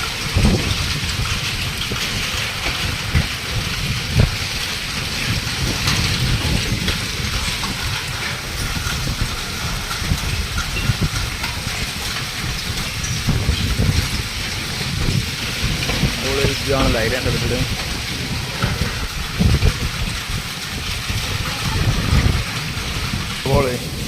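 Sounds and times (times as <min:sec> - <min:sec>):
heavy rain pouring: 0:00.0 - 0:24.0
wind rumble on microphone: 0:00.0 - 0:24.0.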